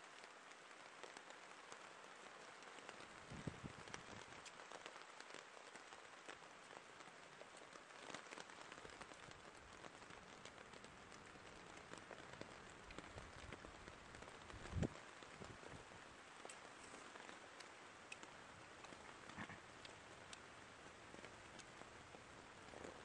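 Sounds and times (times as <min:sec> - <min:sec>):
light rain on foliage: 0:00.0 - 0:23.0.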